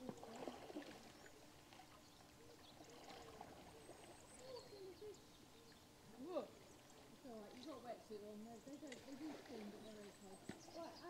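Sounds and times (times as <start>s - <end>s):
faint distant voices: 0.0s - 11.0s
faint estuary ambience: 0.0s - 11.0s.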